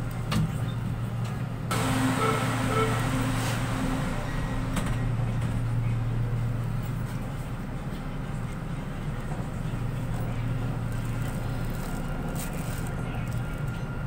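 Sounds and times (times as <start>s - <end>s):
train car low hum: 0.0s - 14.0s.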